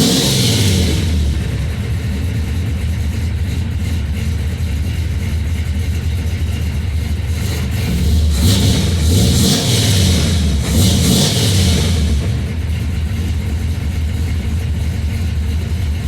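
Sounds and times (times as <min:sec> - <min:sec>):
pickup engine rumbling: 0:00.0 - 0:16.0.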